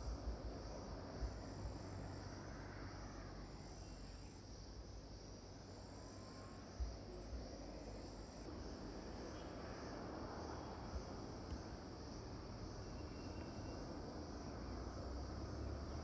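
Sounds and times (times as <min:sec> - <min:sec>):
high-pitched insect drone: 0:00.6 - 0:16.0.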